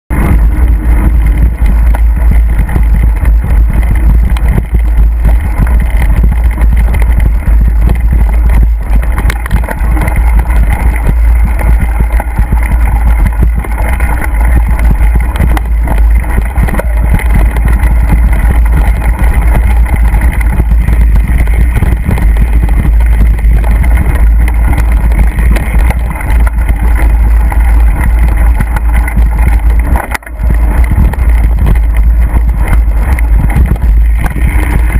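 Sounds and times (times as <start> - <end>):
wind buffeting microphone: 0.1 - 34.9.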